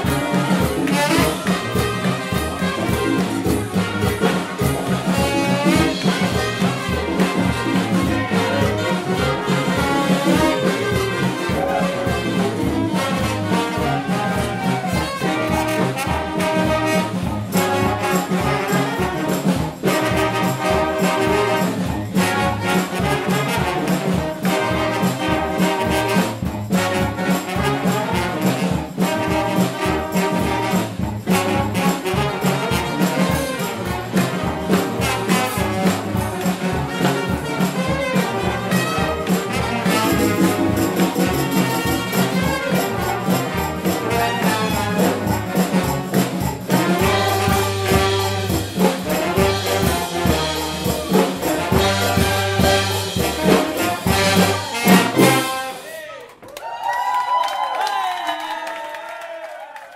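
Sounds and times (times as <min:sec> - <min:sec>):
brass band playing funk: 0:00.0 - 0:56.3.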